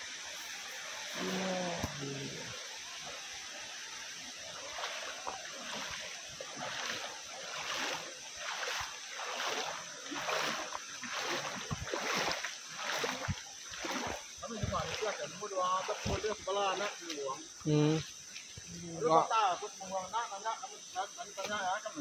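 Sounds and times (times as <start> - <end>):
river water splashing: 0.0 - 22.0.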